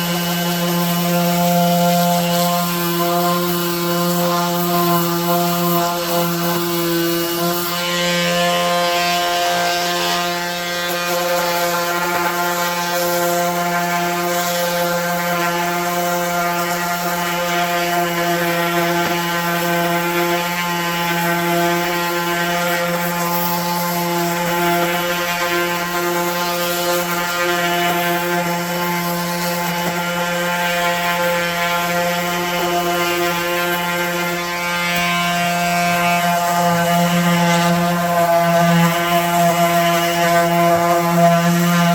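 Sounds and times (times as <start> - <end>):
electric sander on wood: 0.0 - 41.9.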